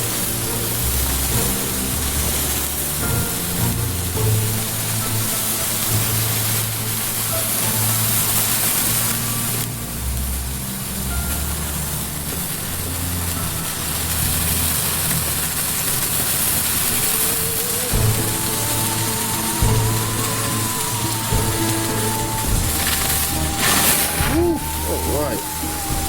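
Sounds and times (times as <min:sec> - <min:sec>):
low background music: 0:00.0 - 0:26.0
sparklers hissing: 0:00.0 - 0:26.0.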